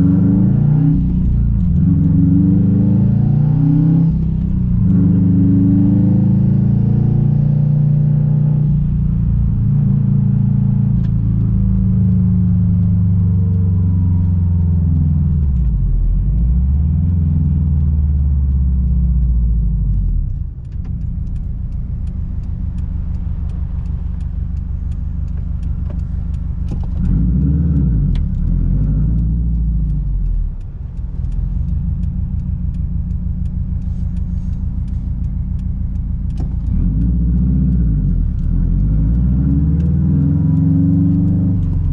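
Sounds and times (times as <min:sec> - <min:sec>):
car exhaust while driving: 0:00.0 - 0:41.9.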